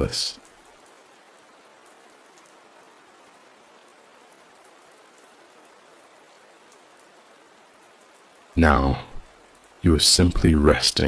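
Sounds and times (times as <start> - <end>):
soft steady rain: 0.0 - 11.0.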